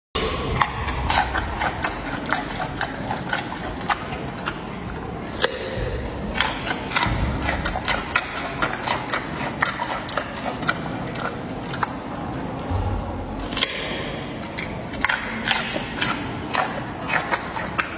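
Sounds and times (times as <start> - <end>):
panda crunching carrot: 0.2 - 17.9.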